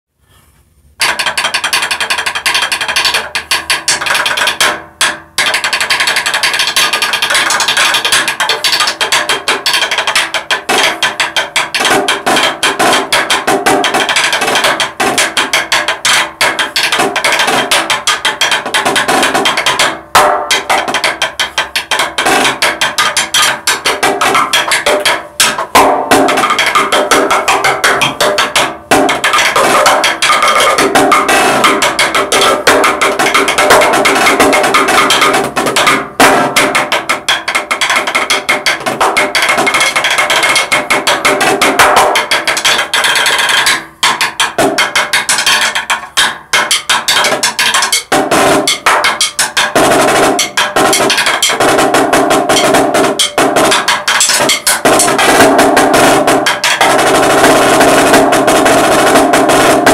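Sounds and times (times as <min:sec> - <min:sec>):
snare drum rolls: 0:01.1 - 0:59.9.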